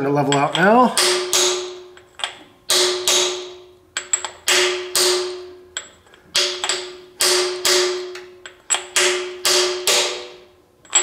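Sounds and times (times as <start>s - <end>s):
hammer striking metal: 0.3s - 11.0s.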